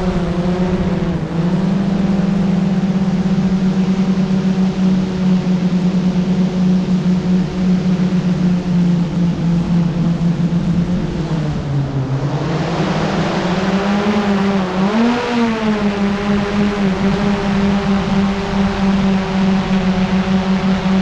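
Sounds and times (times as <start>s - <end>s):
drone propellers humming: 0.0s - 21.0s.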